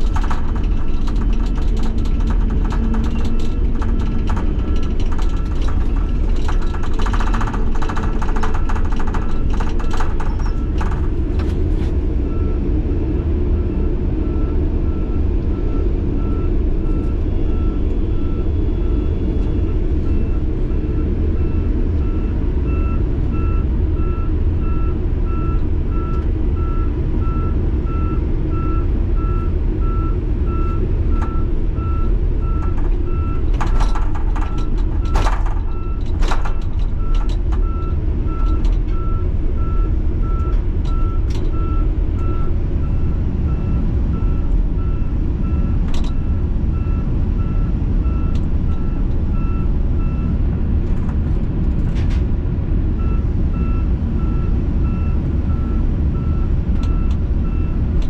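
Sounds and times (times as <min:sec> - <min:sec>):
backup alarm beeping: 0:00.0 - 0:11.0, 0:13.8 - 0:50.3
diesel truck engine running: 0:00.0 - 0:58.0.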